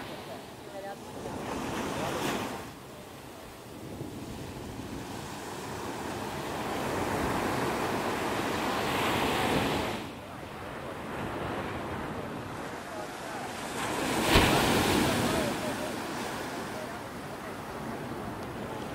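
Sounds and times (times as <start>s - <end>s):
ocean surf washing up beach: 0.0s - 18.9s.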